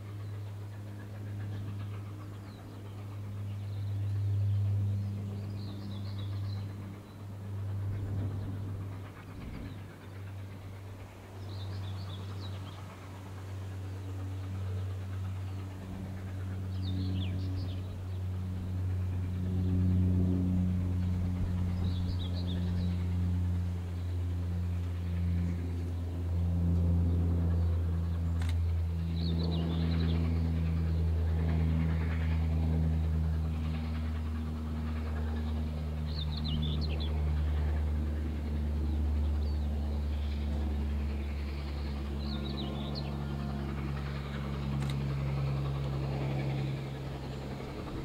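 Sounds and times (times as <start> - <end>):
approaching train low hum: 0.0 - 48.0.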